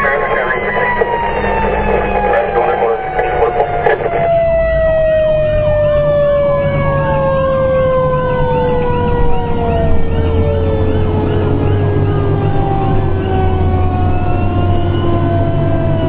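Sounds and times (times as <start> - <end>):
siren yelping: 0.0 - 15.7
long falling siren tone: 0.0 - 16.0
truck engine drone: 0.0 - 16.0.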